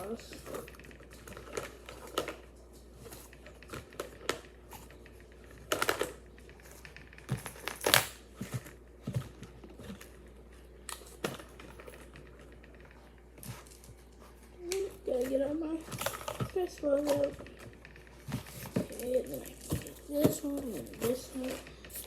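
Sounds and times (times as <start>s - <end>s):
toys rummaged clicking and rustling: 0.0s - 22.0s.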